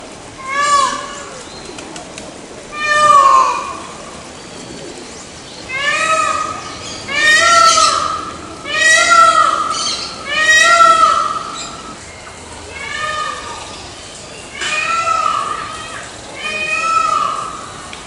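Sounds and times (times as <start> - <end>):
peafowl calling: 0.4 - 1.8, 2.6 - 5.0, 5.6 - 12.0, 12.6 - 17.9.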